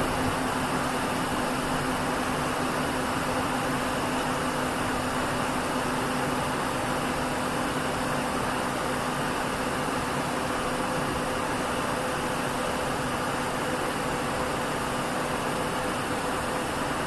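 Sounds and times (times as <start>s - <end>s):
bus engine hum inside cabin: 0.0s - 17.0s.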